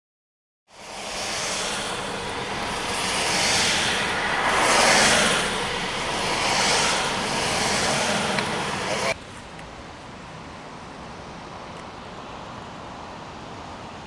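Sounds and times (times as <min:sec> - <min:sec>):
cars passing on wet road: 0:00.7 - 0:14.0.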